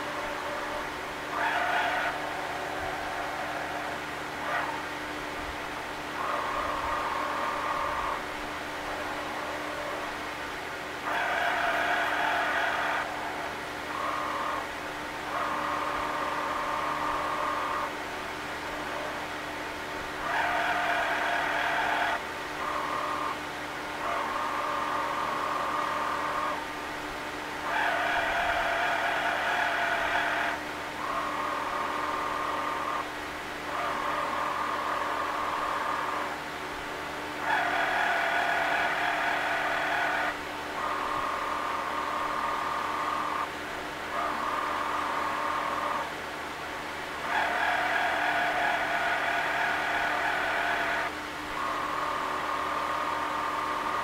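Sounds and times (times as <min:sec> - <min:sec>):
motor whining: 0:00.0 - 0:54.0.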